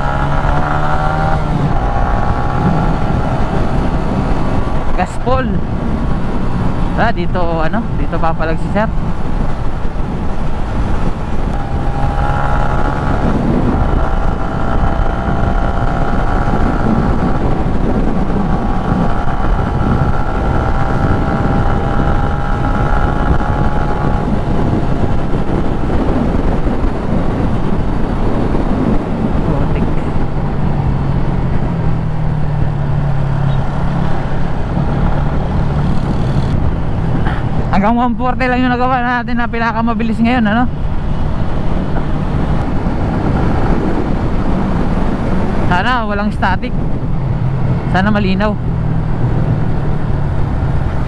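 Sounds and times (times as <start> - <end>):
motorcycle engine at speed: 0.0 - 51.0
wind and road noise: 0.0 - 51.0.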